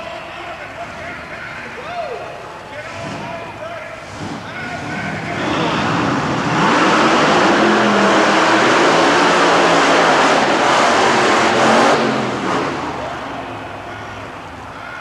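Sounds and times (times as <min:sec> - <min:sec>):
monster truck engines roaring: 0:00.0 - 0:15.0.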